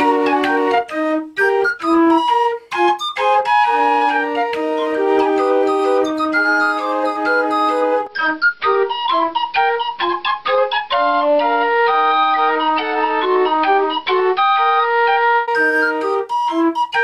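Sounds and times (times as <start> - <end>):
pipe organ playing a tune: 0.0 - 8.1, 11.2 - 17.0.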